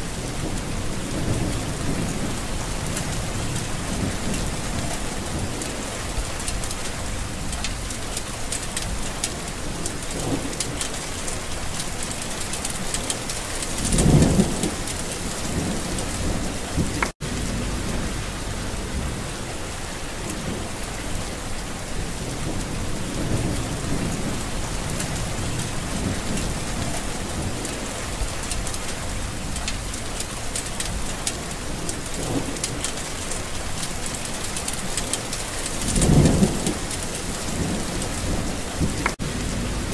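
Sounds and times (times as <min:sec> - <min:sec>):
rain falling: 0:00.0 - 0:39.9
wind: 0:00.0 - 0:39.9.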